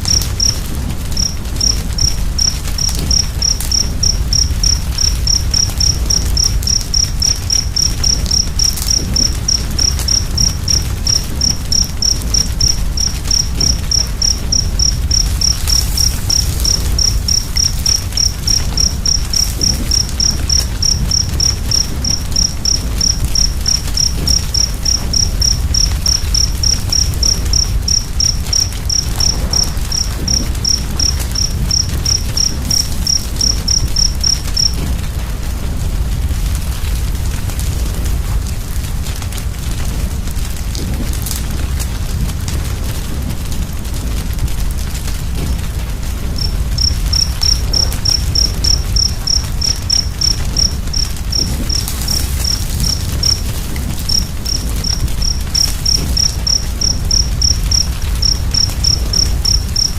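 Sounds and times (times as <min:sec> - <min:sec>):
cricket chirping: 0:00.0 - 0:38.8, 0:40.8 - 0:59.9
wood fire rumbling and crackling: 0:00.0 - 0:59.9.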